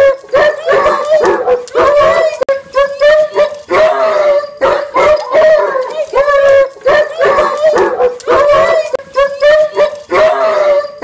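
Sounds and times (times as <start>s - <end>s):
dogs whining and howling: 0.0s - 2.4s, 3.0s - 11.0s.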